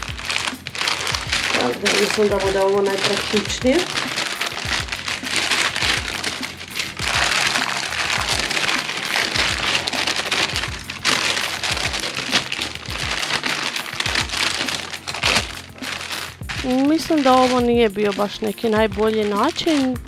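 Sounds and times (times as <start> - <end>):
background music with bass: 0.0 - 20.0
baking paper crinkling: 0.0 - 20.0.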